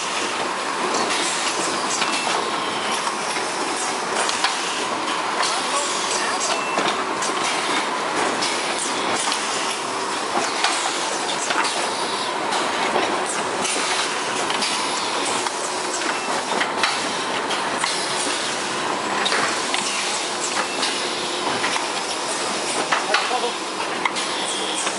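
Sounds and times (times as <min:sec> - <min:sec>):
conveyor machinery clatter: 0:00.0 - 0:24.9.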